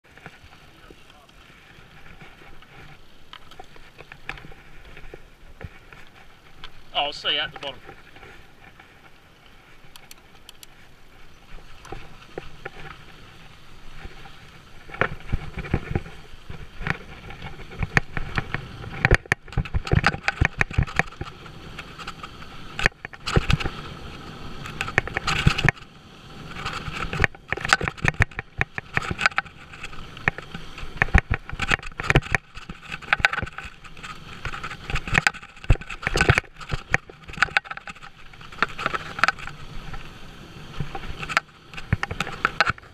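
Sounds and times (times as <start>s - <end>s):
bike rattling and knocking: 0.0s - 40.1s, 40.8s - 42.9s
bike tyres on loose dirt and stones: 0.0s - 42.9s.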